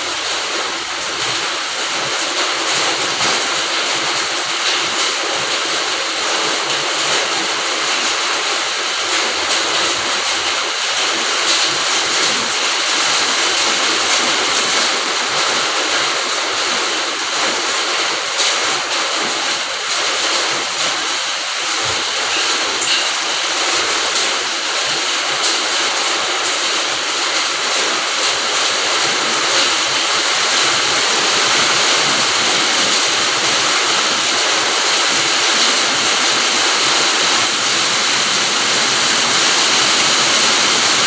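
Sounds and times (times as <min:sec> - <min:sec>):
rain falling on a garden: 0:00.0 - 0:41.0.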